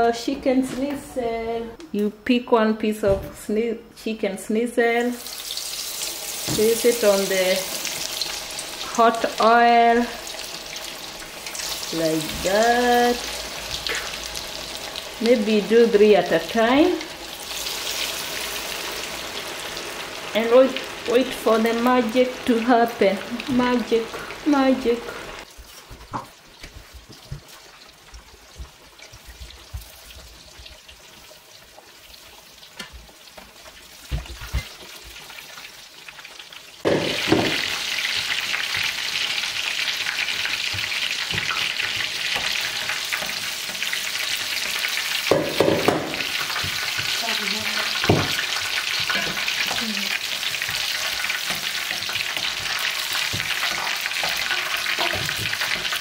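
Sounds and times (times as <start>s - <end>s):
food deep-frying in oil: 5.0s - 56.0s.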